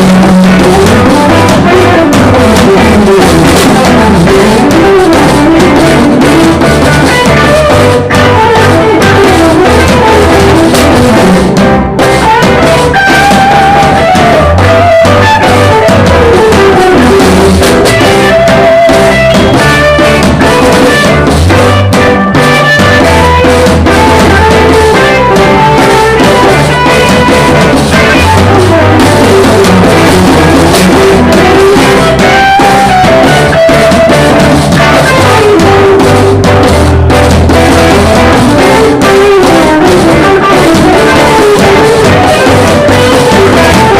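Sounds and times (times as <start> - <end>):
electric guitar lead line: 0.0 - 43.9
live band playing: 0.0 - 43.9.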